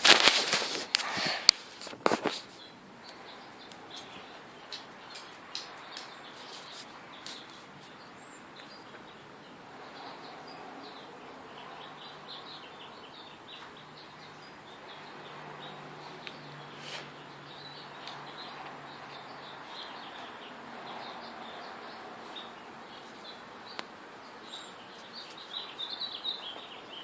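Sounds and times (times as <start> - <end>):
bird chirping: 2.3 - 27.0.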